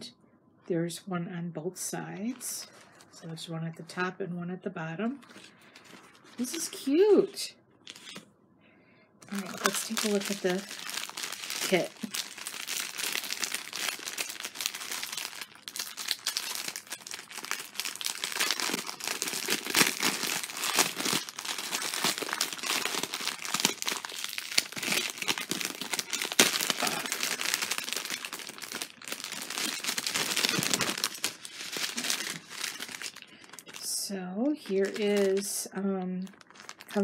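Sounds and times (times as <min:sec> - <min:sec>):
plastic packaging crinkling: 0:05.2 - 0:06.9, 0:07.8 - 0:08.2, 0:09.2 - 0:37.0.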